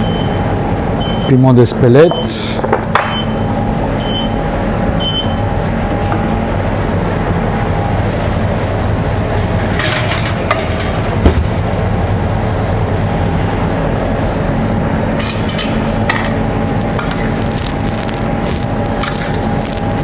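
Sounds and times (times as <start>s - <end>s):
ventilation drone: 0.0s - 20.0s.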